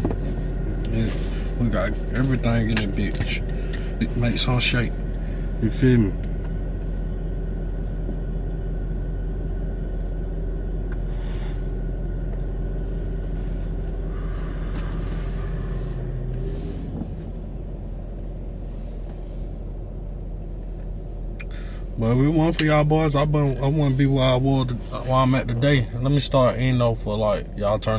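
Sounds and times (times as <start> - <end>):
vehicle engine idling: 0.0 - 27.9.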